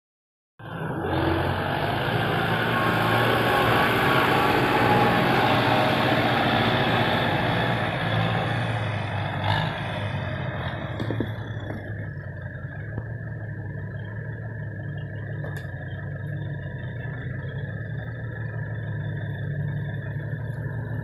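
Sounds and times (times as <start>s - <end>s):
diesel engine running: 0.6s - 21.0s.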